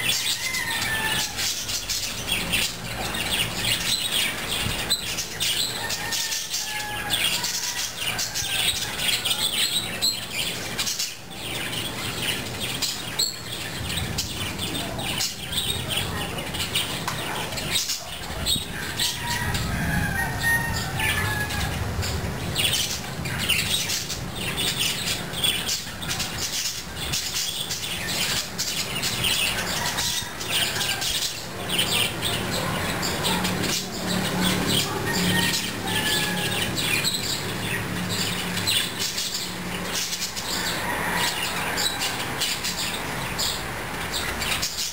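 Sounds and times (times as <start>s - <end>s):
birds chirping and squawking: 0.0s - 44.9s.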